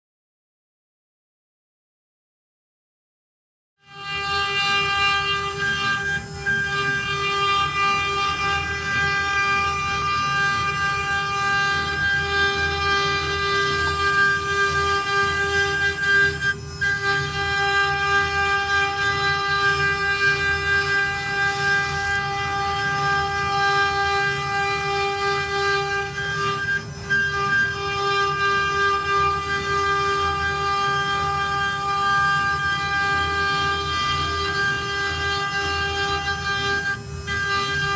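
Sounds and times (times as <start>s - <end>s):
router spindle high-pitched whine: 3.8s - 37.9s.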